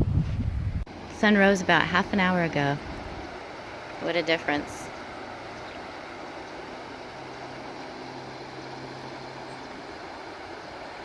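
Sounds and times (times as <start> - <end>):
mountain stream rushing: 0.9 - 11.0.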